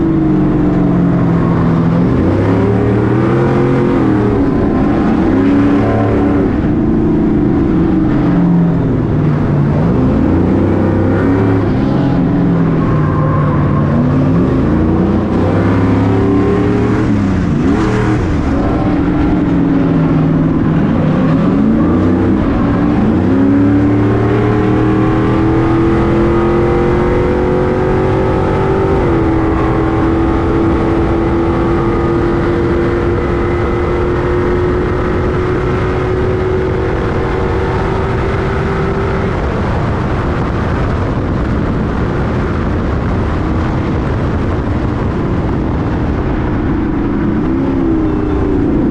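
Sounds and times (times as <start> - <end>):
racing engine revving: 0.0 - 48.9
road and wind noise: 0.0 - 48.9.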